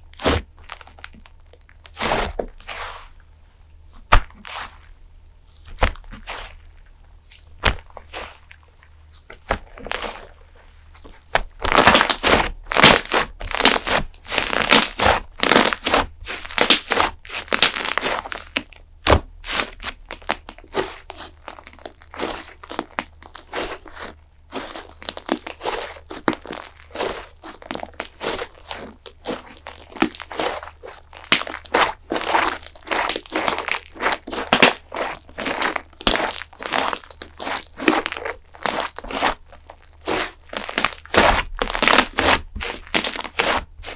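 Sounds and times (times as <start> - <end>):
slime crackling and popping: 0.1 - 2.9, 11.3 - 43.9.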